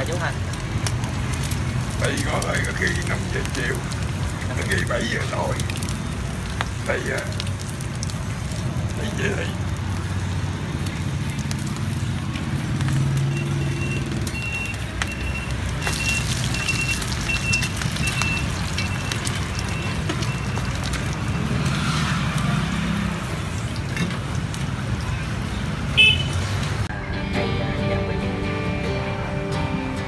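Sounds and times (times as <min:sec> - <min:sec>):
oil sizzling on a frying pan: 0:00.0 - 0:26.9
street traffic rumble: 0:00.0 - 0:30.0.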